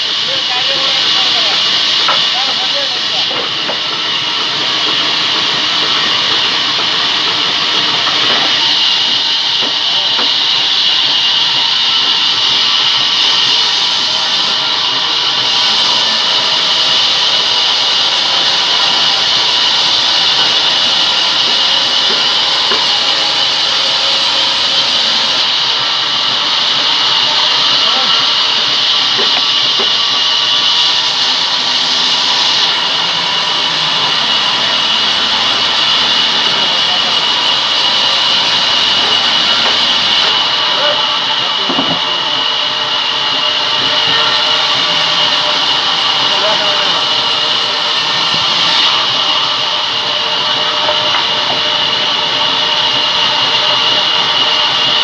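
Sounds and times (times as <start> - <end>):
band saw cutting through log: 0.0 - 55.0.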